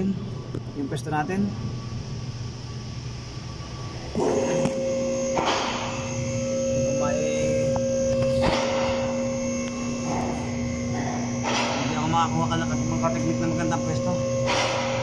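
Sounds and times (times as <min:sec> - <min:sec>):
steady two-pitch hum: 0:00.0 - 0:15.0.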